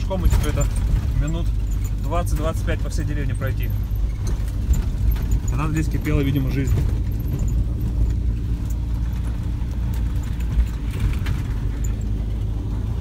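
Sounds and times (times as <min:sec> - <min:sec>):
faint light rattles: 0:00.0 - 0:12.7
off-road vehicle engine running: 0:00.0 - 0:13.0.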